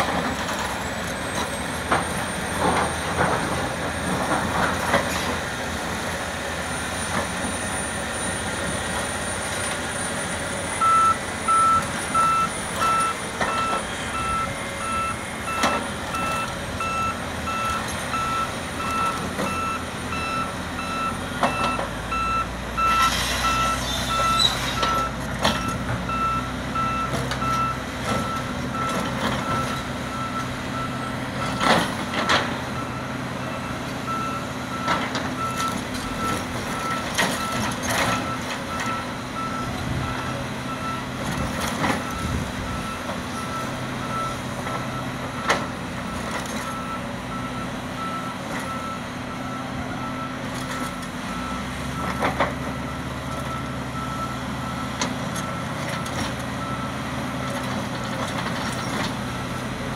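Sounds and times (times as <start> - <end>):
heavy diesel machinery rumbling: 0.0 - 59.9
reversing alarm beeping: 10.0 - 59.6.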